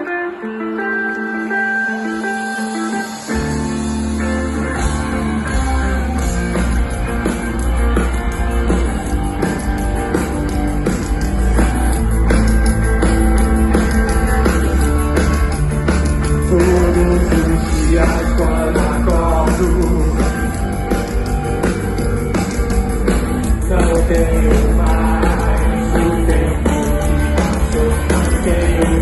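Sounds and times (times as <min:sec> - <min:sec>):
electric guitars: 0:00.0 - 0:29.0
bass guitar: 0:01.5 - 0:29.0
drums playing steady beat: 0:03.4 - 0:29.0.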